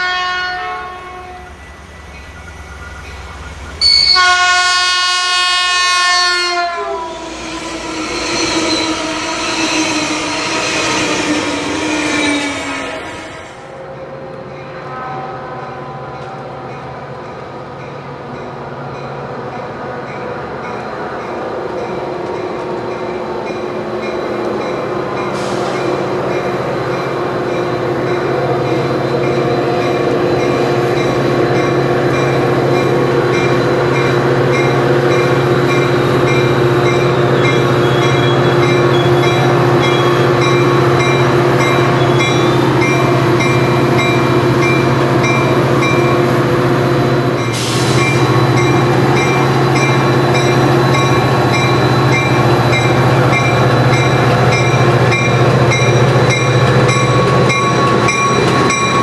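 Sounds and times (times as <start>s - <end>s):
diesel locomotive engine: 0.0s - 59.0s
rail rumble: 0.0s - 59.0s.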